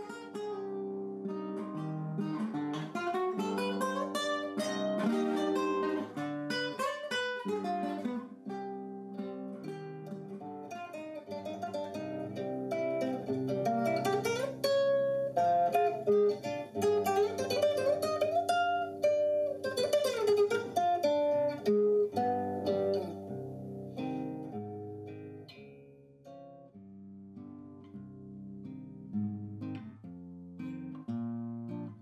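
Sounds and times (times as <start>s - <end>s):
classical guitar playing: 0.0s - 32.0s.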